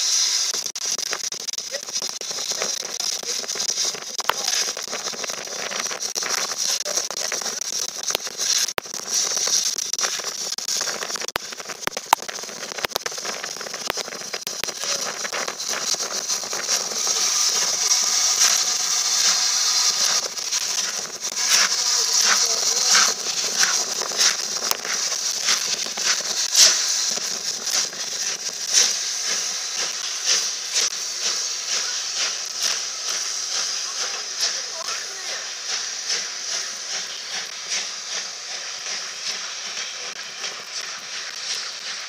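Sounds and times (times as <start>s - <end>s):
steam hissing from locomotive: 0.0s - 42.0s.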